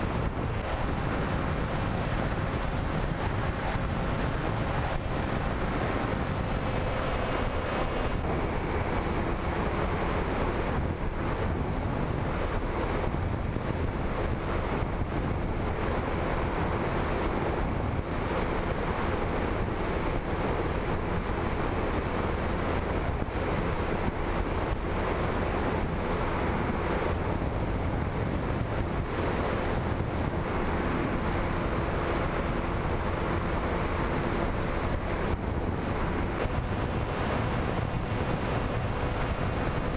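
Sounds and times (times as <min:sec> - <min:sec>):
motor and propeller tone: 0:00.0 - 0:39.9
wind rushing over microphone: 0:00.0 - 0:39.9.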